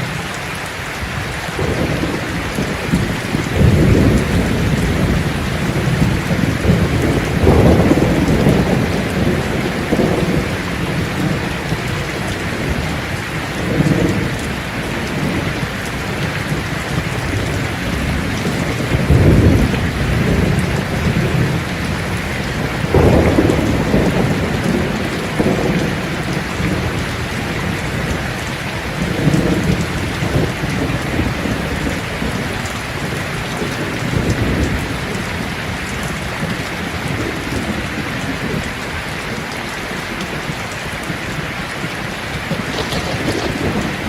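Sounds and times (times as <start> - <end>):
steady rain: 0.0 - 44.0
rolling thunder: 1.0 - 38.9, 40.1 - 44.0.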